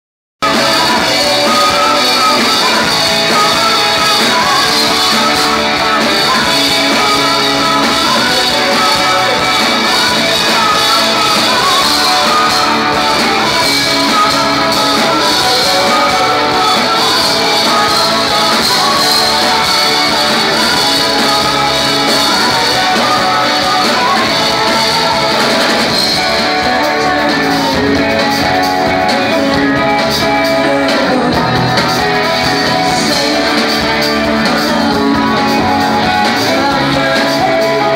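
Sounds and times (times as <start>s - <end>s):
live rock band playing: 0.4s - 37.9s
person singing: 0.4s - 37.9s.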